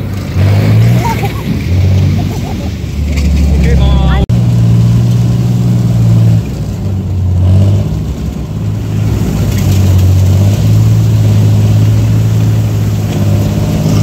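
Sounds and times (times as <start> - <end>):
vehicle engine under load: 0.0 - 14.0.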